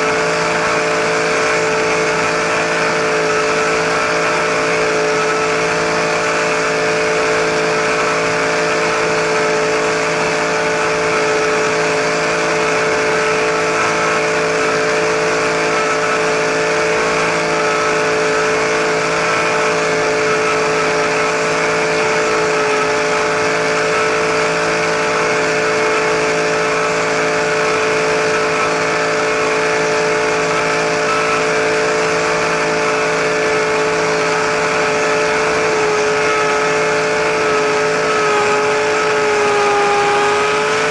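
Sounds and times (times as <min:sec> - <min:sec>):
model helicopter motor and rotor: 0:00.0 - 0:40.9.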